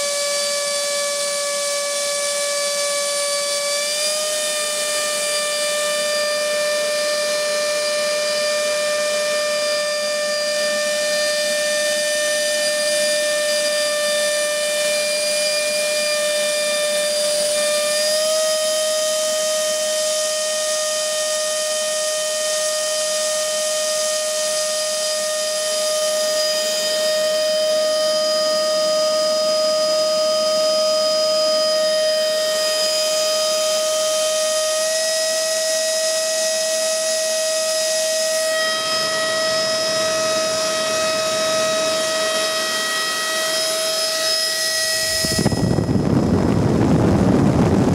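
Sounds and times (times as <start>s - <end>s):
electric motor and propeller whine: 0.0s - 47.9s.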